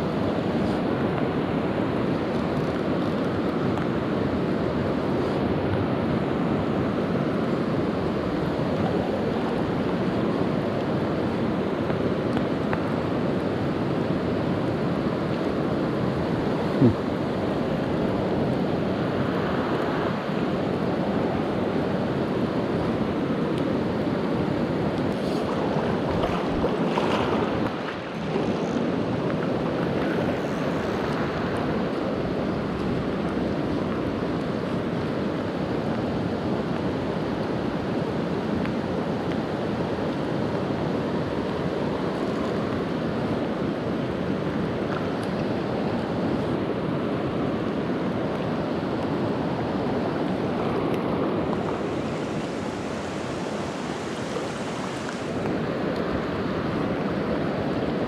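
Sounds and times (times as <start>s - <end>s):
rain falling on water: 0.0s - 58.0s
river current rushing: 0.0s - 58.0s.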